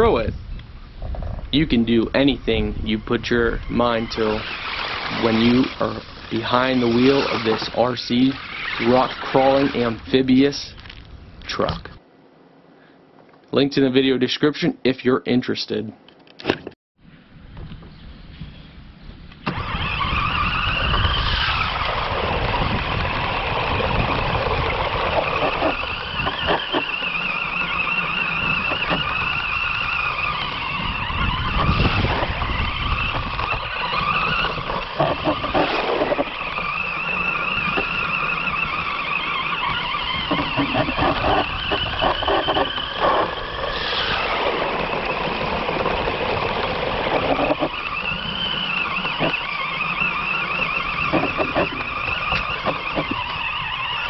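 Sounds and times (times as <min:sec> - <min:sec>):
electric drive motors whining: 0:00.6 - 0:11.5, 0:19.3 - 0:54.0.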